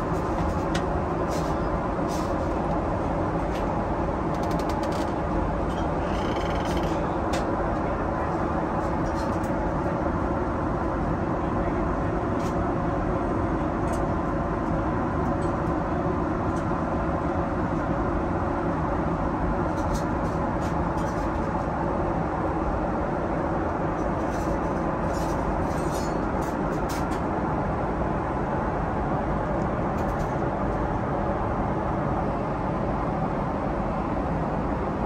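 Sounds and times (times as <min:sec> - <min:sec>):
airliner cabin noise: 0:00.0 - 0:35.0.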